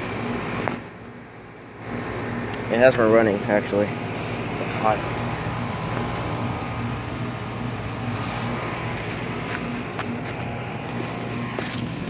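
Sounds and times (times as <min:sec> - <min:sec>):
air conditioner units humming: 0:00.0 - 0:12.0.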